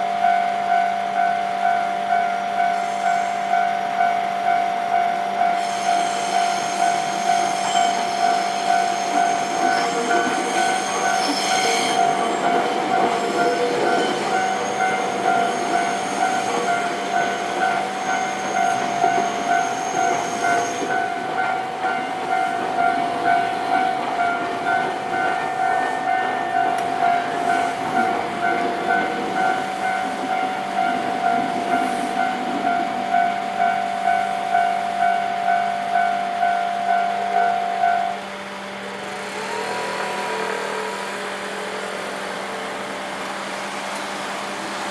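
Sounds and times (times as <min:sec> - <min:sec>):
level crossing bell ringing: 0:00.0 - 0:38.3
train wheels clattering on rails: 0:04.9 - 0:44.9.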